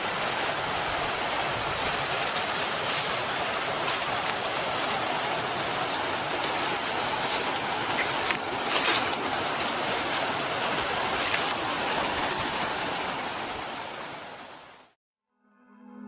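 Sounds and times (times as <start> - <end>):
river water rushing: 0.0 - 15.0
water splashes: 0.0 - 15.0.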